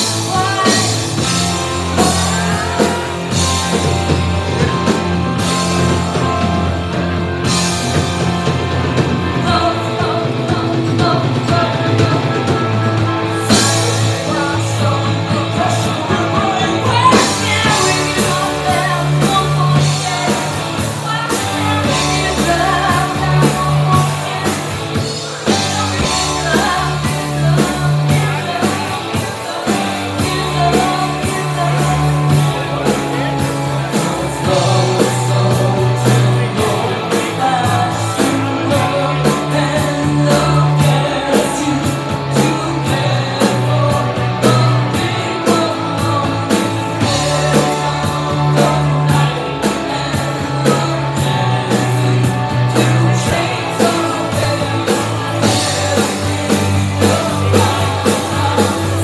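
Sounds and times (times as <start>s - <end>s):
woman singing into microphone: 0.0s - 4.1s, 9.0s - 12.8s, 13.4s - 59.0s
bass guitar: 0.0s - 59.0s
drum kit: 0.0s - 59.0s
electric guitar: 0.0s - 59.0s.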